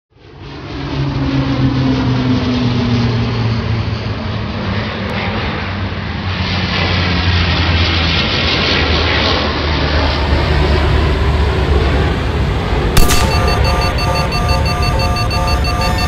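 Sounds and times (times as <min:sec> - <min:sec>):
jet engines rumbling in flight: 0:00.1 - 0:16.0.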